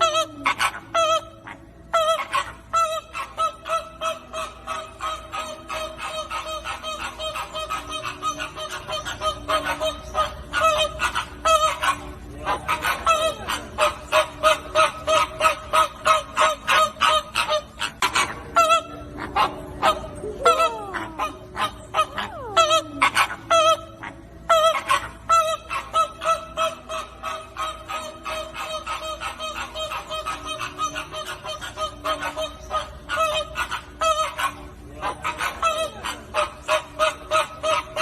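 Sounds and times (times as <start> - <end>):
flamingos honking: 0.0 - 38.0.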